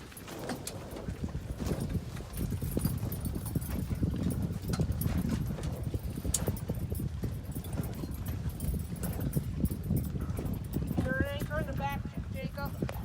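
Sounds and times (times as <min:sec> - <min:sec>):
water slapping against boat hull: 0:00.0 - 0:13.0.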